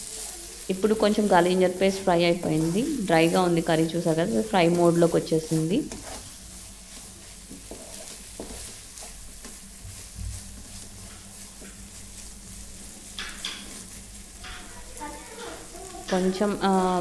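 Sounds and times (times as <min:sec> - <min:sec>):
prawns sizzling in a pan: 0:00.0 - 0:17.0
wooden spatula scraping pan: 0:01.7 - 0:17.0.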